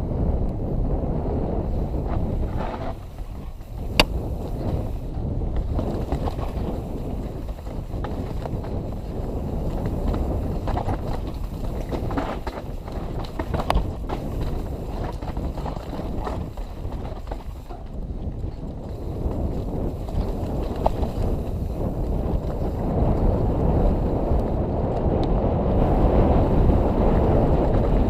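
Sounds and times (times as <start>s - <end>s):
wind rumble: 0.0s - 28.0s
bike clicks and rattles: 1.7s - 28.0s.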